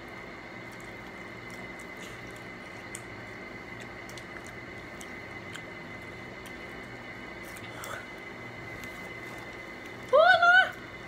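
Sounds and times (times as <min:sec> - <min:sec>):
people chewing: 0:00.6 - 0:10.1.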